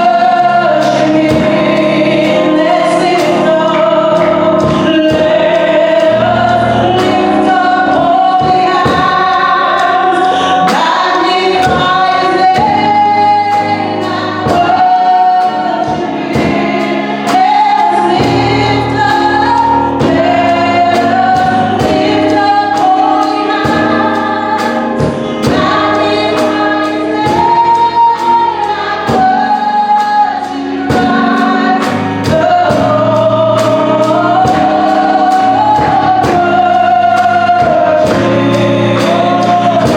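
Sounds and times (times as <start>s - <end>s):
band playing steady beat: 0.0s - 39.9s
group singing praise song: 0.0s - 39.9s.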